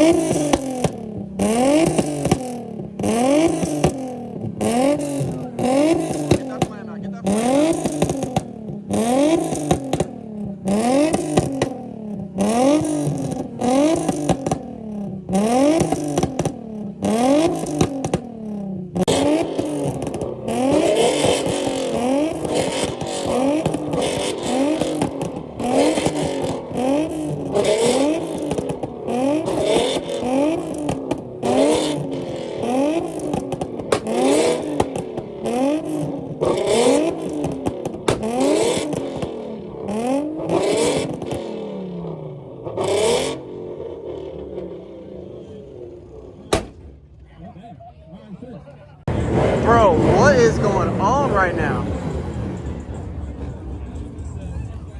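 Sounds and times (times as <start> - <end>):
car engine revving hard: 0.0 - 46.8, 49.1 - 52.8
second car revving: 0.0 - 47.2, 49.0 - 54.4.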